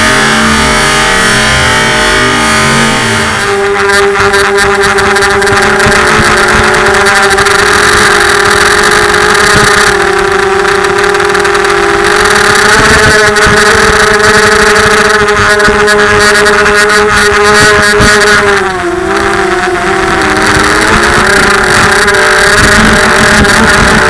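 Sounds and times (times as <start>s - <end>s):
drone motors buzzing: 0.0s - 24.0s
wind rush: 0.0s - 24.0s.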